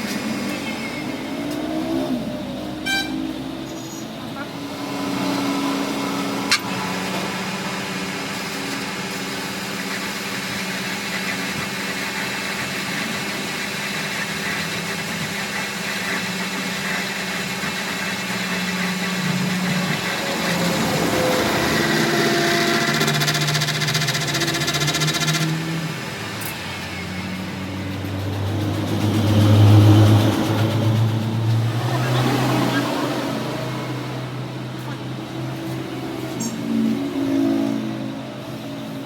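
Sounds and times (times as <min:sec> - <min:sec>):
workshop machine humming and hissing: 0:00.0 - 0:39.0.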